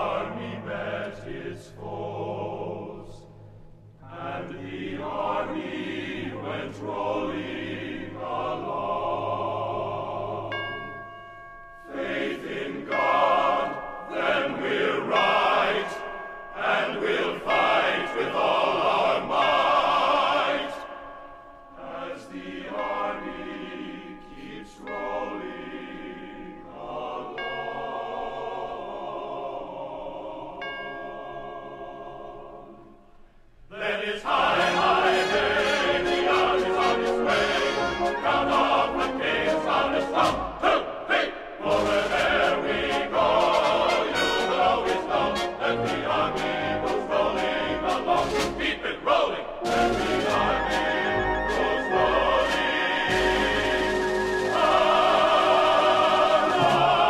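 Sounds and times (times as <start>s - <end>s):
choir singing with instruments: 0.0s - 11.0s, 11.8s - 57.0s.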